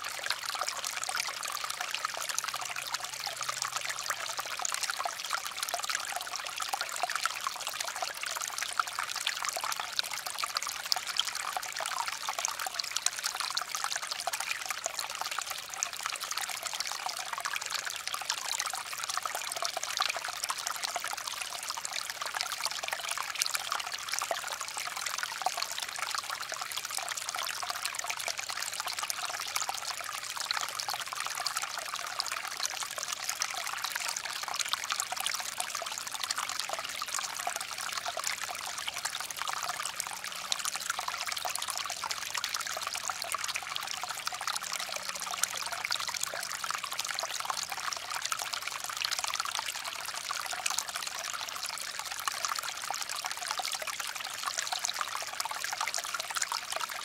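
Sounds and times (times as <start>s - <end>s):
stream trickling and babbling: 0.0s - 57.0s.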